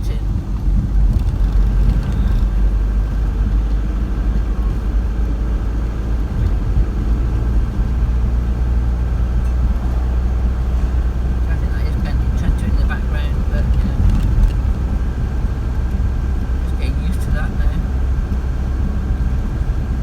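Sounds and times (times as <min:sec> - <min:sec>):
road vehicle rumble: 0:00.0 - 0:20.0.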